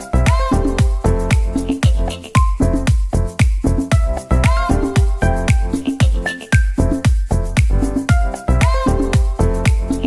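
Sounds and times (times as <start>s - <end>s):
kick drum beat: 0.0s - 9.9s
electronic dance music: 0.0s - 10.0s.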